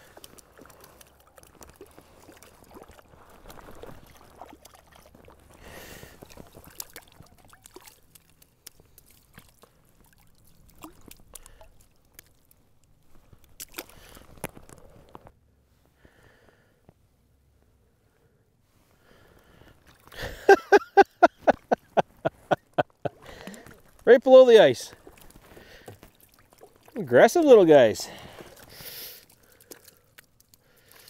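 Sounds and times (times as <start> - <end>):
water sloshing and dripping: 0.0 - 15.3, 19.4 - 31.0.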